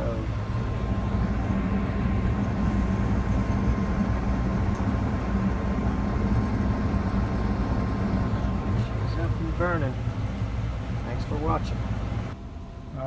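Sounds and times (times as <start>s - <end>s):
furnace hum: 0.0s - 13.0s
gas furnace rumbling: 0.0s - 13.0s.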